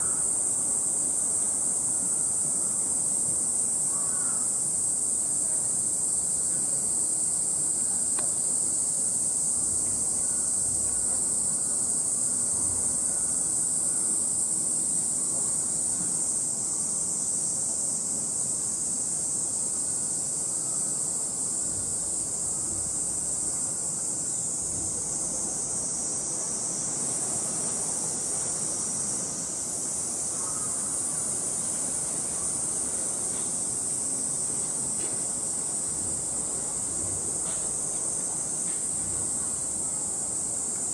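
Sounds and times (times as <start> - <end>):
faint outdoor background noise: 0.0 - 40.9
high-pitched insect chorus: 0.0 - 40.9.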